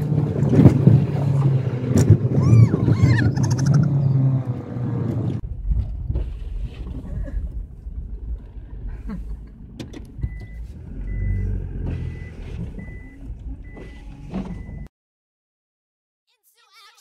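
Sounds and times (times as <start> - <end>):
engine and road rumble: 0.0 - 14.9.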